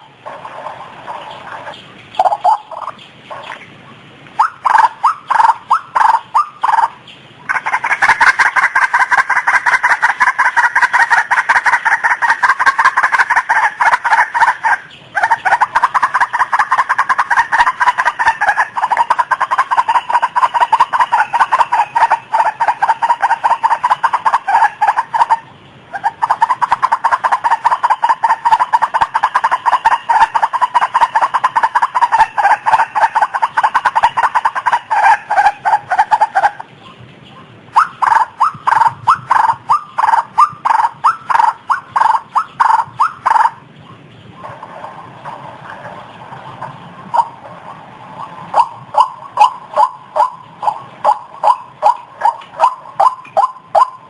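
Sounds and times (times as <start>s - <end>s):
waterhen calling: 0.0s - 54.0s.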